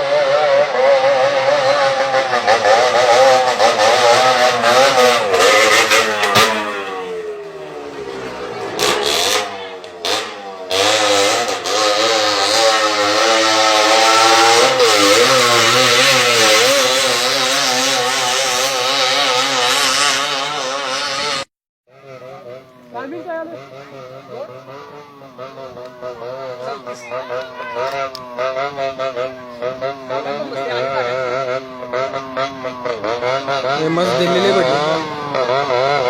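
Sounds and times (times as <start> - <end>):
motorcycle engine running hard: 0.0 - 36.0.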